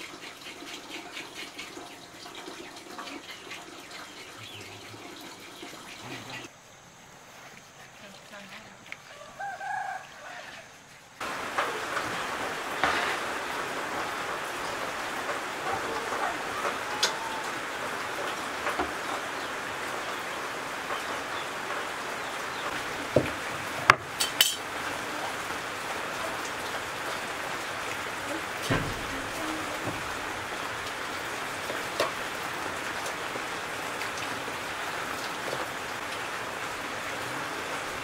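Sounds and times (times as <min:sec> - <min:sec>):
rain hissing: 0:00.0 - 0:38.0.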